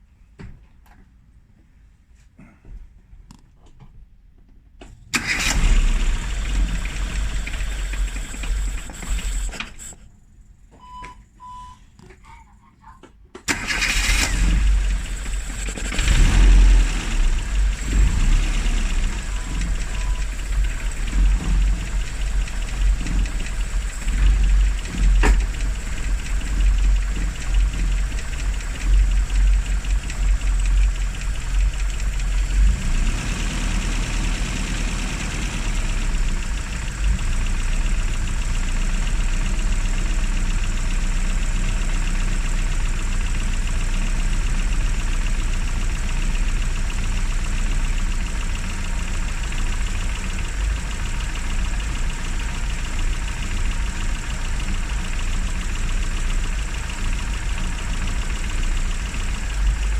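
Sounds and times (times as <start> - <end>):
car engine idling unevenly: 5.0 - 11.0, 12.2 - 59.9.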